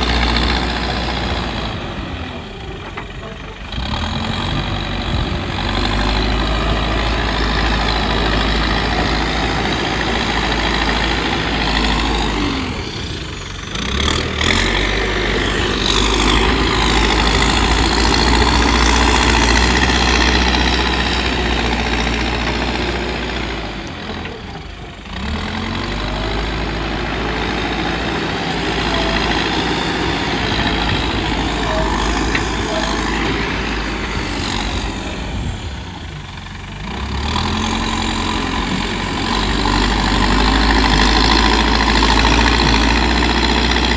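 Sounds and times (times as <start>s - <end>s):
backhoe diesel engine revving: 0.0s - 43.9s.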